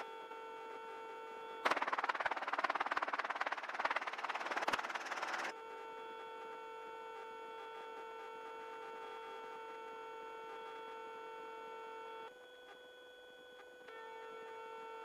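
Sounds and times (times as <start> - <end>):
steady whine over intercom: 0.0 - 15.0.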